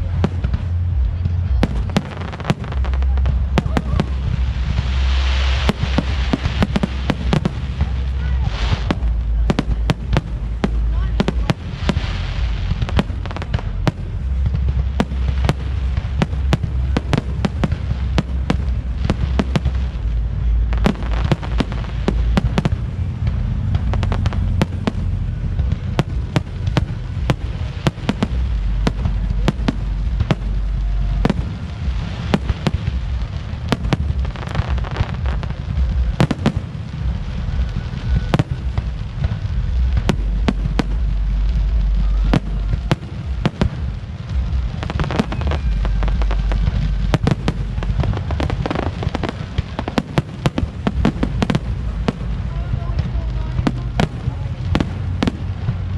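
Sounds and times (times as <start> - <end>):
deep fireworks booms: 0.0 - 55.9
fireworks bangs and crackles: 0.0 - 55.9.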